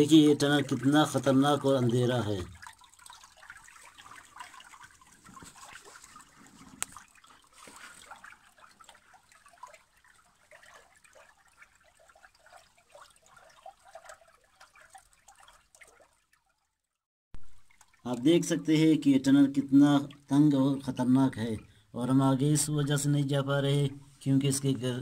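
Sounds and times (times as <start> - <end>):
water trickling and dripping: 0.0 - 25.0.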